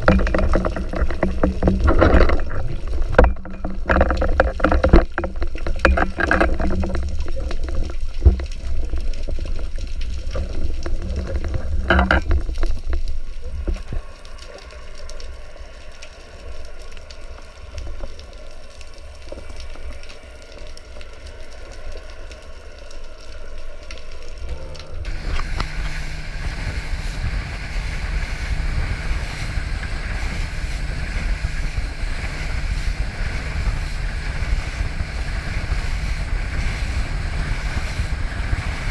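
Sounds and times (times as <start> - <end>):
hiss of water and wind: 0.0 - 38.9
muffled underwater rumble: 0.0 - 38.9.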